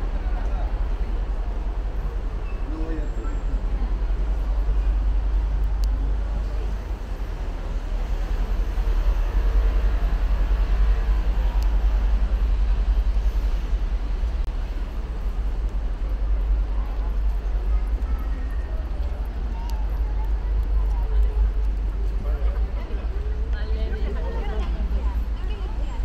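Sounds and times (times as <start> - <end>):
outdoor street noise: 0.0 - 26.0
steady low rumble: 0.0 - 26.0.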